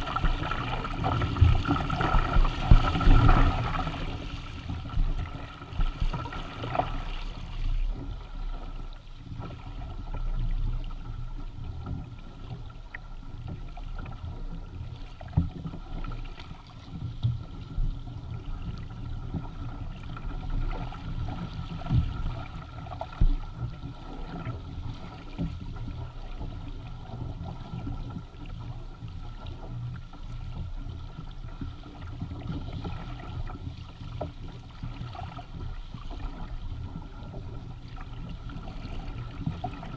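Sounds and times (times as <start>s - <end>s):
water rushing along a hull: 0.0s - 39.9s
wind rumbling on microphone: 0.0s - 39.9s.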